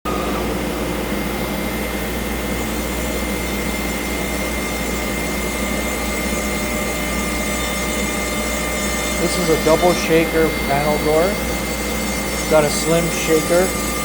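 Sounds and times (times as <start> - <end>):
cnc router whining: 0.0 - 14.0.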